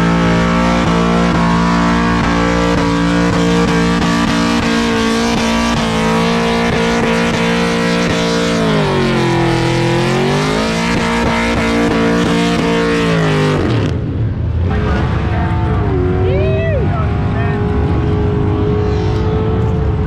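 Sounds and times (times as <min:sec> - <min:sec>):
engine at high revs: 0:00.0 - 0:20.0.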